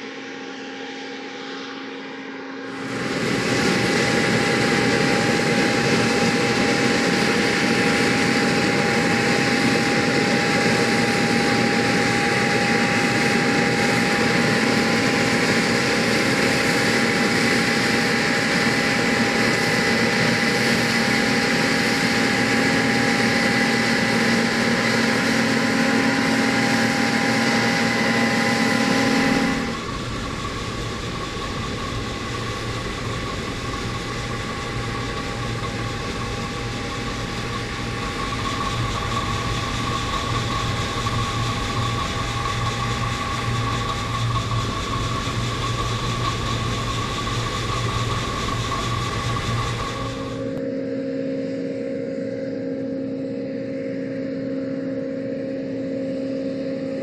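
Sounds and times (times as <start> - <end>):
high whining machinery: 0.0 - 57.0
combine harvester running: 2.7 - 50.6.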